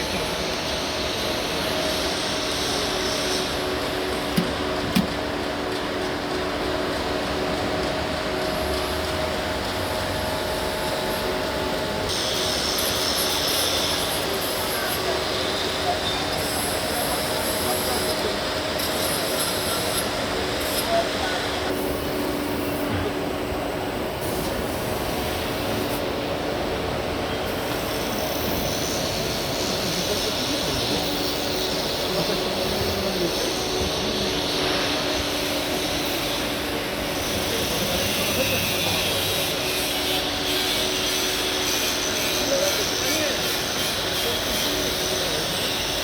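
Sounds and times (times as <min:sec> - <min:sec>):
grinding machine humming: 0:00.0 - 0:46.0.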